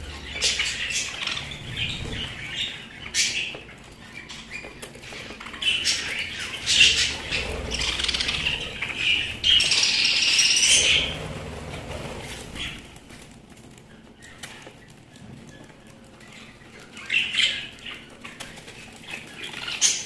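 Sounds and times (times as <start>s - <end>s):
budgerigars chirping and chattering: 0.0s - 20.0s.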